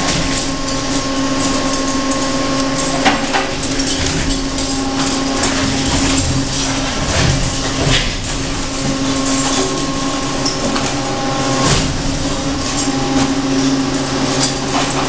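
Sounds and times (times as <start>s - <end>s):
motor hum: 0.0s - 15.0s
shredder clattering and knocking: 0.0s - 15.0s.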